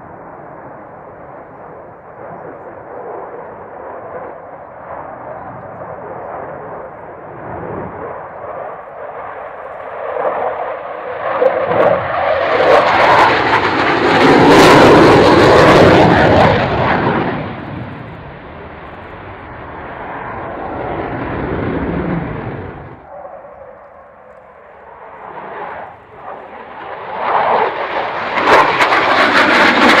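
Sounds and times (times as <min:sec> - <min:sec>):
jet fighter flypast: 0:00.0 - 0:30.0.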